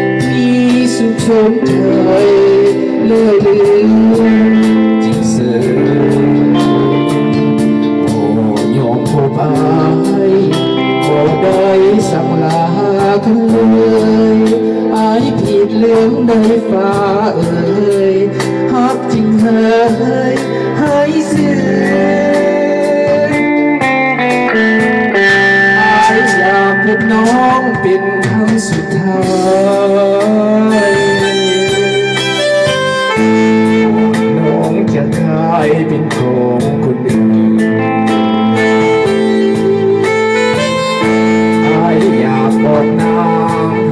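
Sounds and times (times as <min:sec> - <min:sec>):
bass notes: 0:00.0 - 0:43.9
electric guitar: 0:00.0 - 0:43.9
keyboard: 0:00.0 - 0:43.9
man singing: 0:00.0 - 0:43.9
steady beat: 0:00.0 - 0:43.9.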